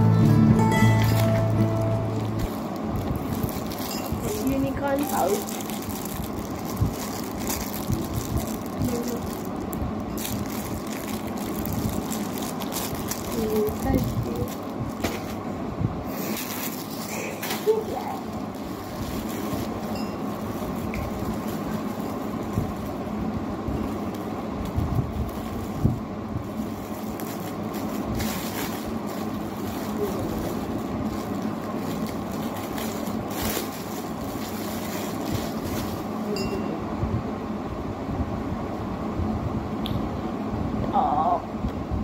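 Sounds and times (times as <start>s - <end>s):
steady background hum: 0.0s - 42.0s
packaging rustling and crinkling: 0.8s - 15.5s, 16.2s - 36.3s.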